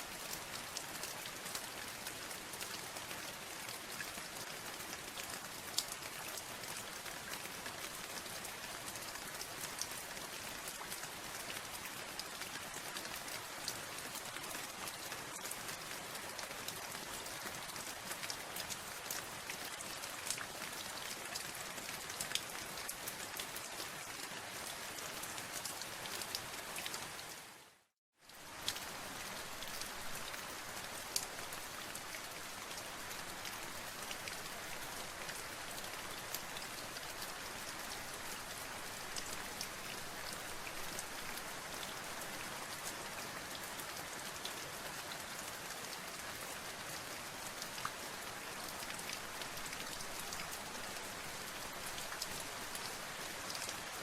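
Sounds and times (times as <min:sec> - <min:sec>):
rain drops ticking on a surface: 0:00.0 - 0:54.0.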